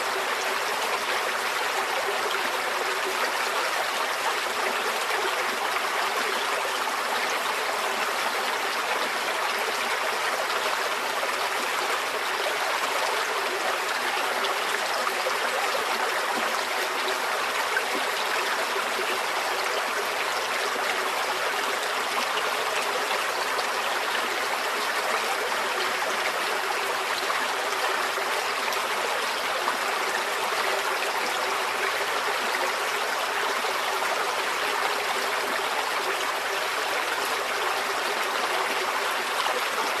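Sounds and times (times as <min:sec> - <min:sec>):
stream flowing over rocks: 0:00.0 - 0:40.0.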